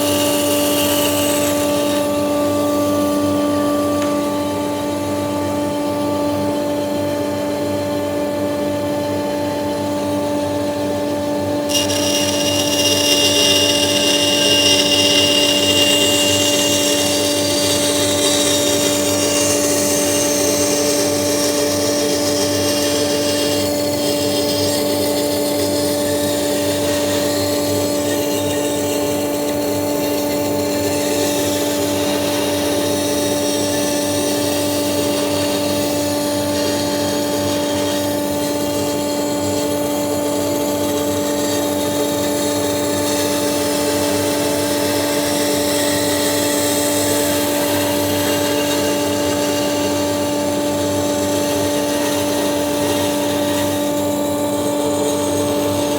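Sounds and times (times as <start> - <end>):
band saw motor hum: 0.0 - 7.7, 9.0 - 55.9
saw blade cutting whine: 0.0 - 8.6, 9.2 - 55.9.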